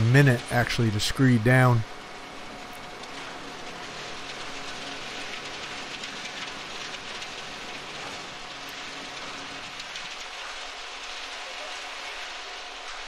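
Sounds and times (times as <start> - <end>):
wet concrete pouring and raking: 0.0 - 1.8, 2.9 - 13.0.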